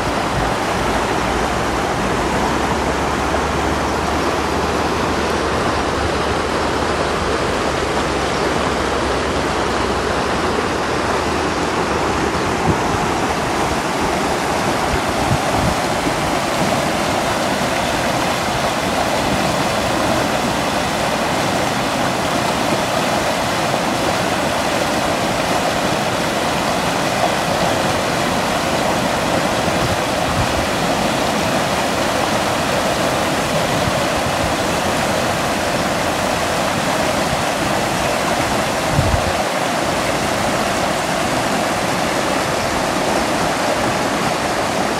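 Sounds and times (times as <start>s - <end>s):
floodwater rushing over stones: 0.0s - 44.9s.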